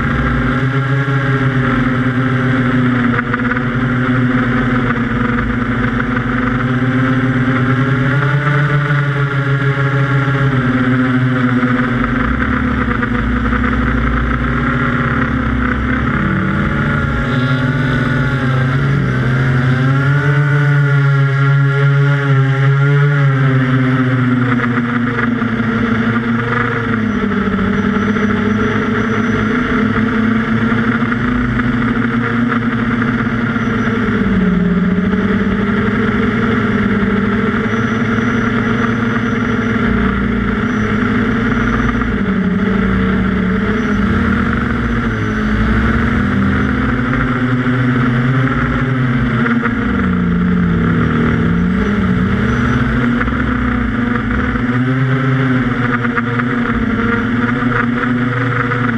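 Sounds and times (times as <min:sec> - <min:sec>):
quadcopter propellers buzzing: 0:00.0 - 0:58.9.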